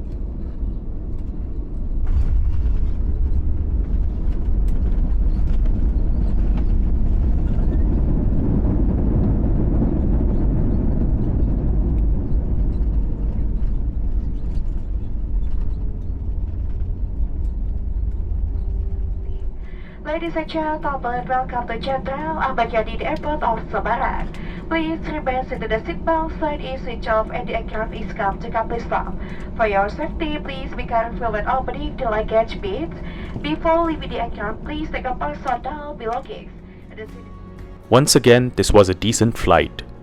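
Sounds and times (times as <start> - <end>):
deep rumble of aircraft cabin: 0.0 - 36.5.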